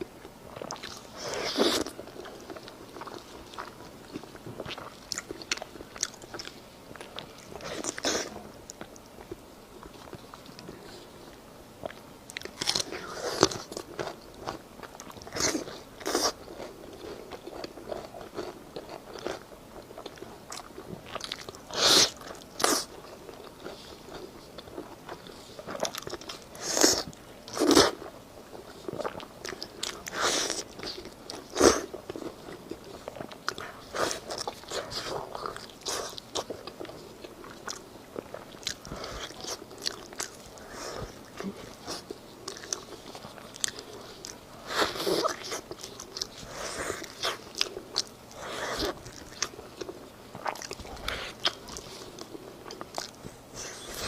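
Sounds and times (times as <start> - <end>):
person chewing crisp food: 0.1 - 54.0.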